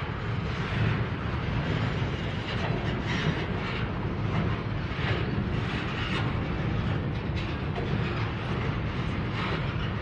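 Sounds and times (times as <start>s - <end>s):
freight train rumbling over bridge: 0.0s - 10.0s
train wheels clattering: 0.0s - 10.0s.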